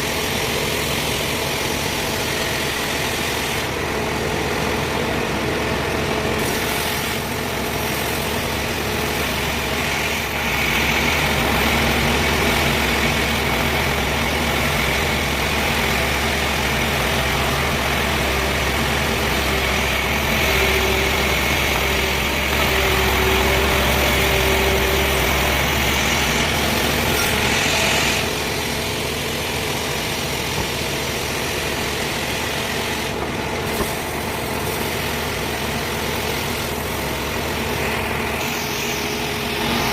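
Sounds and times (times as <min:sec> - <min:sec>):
high machine whine: 0:00.0 - 0:39.9
sawmill machinery drone: 0:00.0 - 0:39.9.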